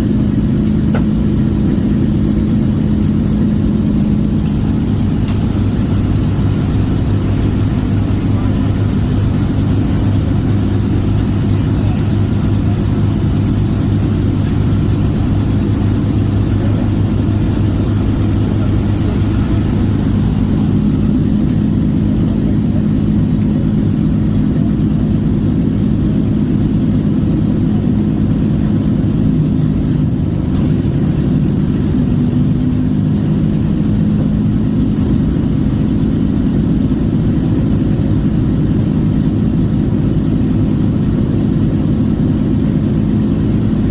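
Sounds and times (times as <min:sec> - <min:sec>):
piston aircraft engines droning: 0:00.0 - 0:43.9.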